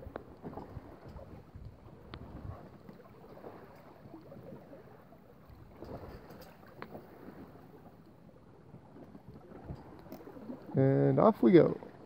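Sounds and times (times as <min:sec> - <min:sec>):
light clicks from boat: 0:00.0 - 0:12.0
water lapping along hull: 0:00.0 - 0:12.0.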